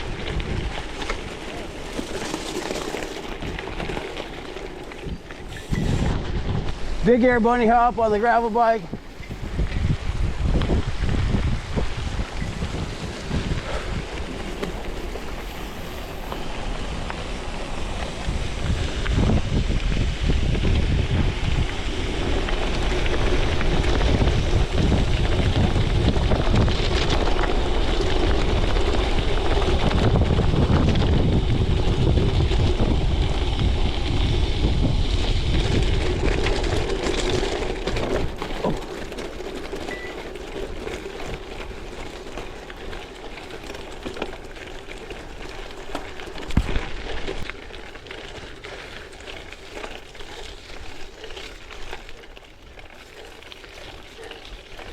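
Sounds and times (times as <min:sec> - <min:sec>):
wind buffeting microphone: 0:00.0 - 0:52.8
bike rolling over gravel: 0:00.0 - 0:54.9.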